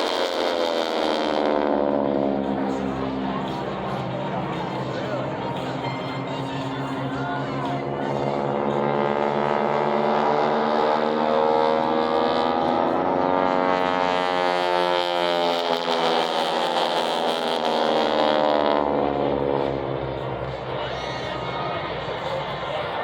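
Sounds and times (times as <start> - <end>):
propeller aircraft engines droning: 0.0 - 23.0.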